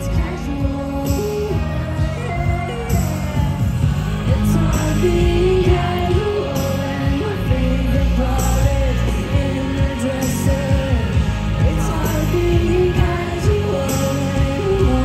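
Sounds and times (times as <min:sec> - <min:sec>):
live pop band playing: 0:00.0 - 0:15.0
woman singing: 0:00.0 - 0:15.0.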